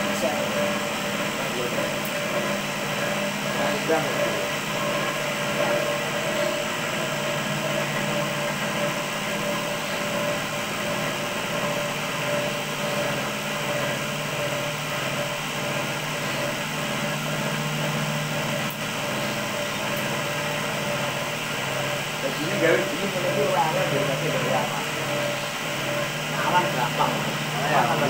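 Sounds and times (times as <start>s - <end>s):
cotton candy machine whirring: 0.0s - 28.0s.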